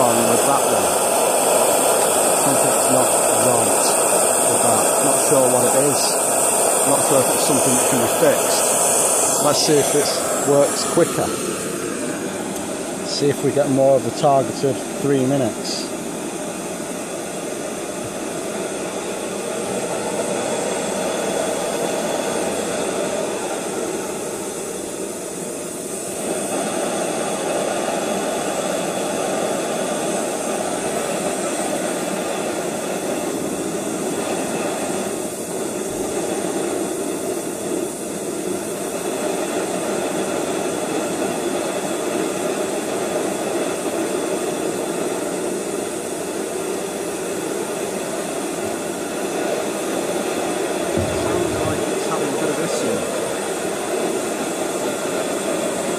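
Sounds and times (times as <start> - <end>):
gas stove hissing: 0.0 - 55.9.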